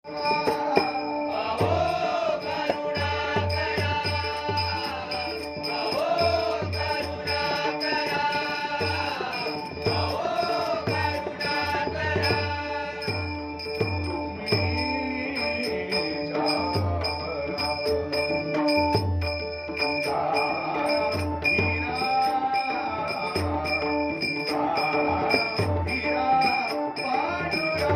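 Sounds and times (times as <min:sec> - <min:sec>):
voices singing: 0:00.1 - 0:18.6, 0:19.7 - 0:27.9
drum: 0:00.1 - 0:27.9
small hand cymbals: 0:00.1 - 0:27.9
steady held tones: 0:00.1 - 0:27.9.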